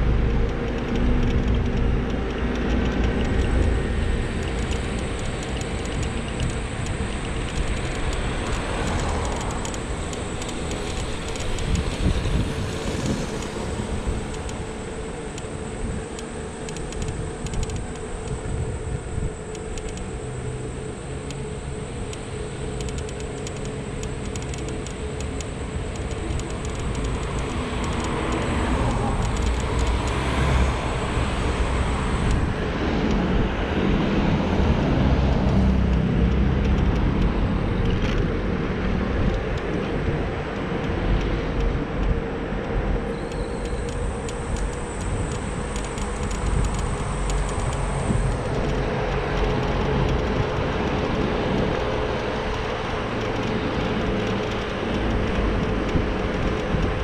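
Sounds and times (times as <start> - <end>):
car traffic passing: 0.0 - 57.0
wind and road rumble: 0.0 - 57.0.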